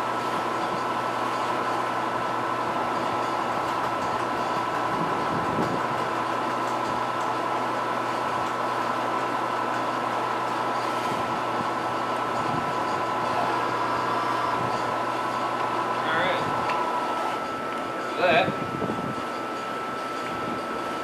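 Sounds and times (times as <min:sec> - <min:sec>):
milling machine humming and whining: 0:00.0 - 0:21.0.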